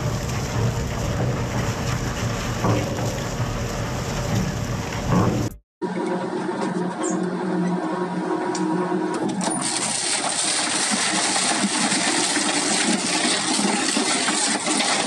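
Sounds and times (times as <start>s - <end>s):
crushing machine humming: 0.0s - 15.0s.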